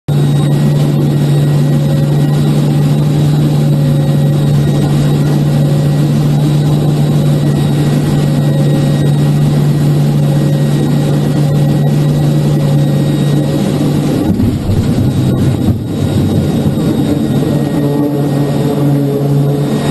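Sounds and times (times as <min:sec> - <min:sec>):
turboprop engines droning: 0:00.1 - 0:19.9.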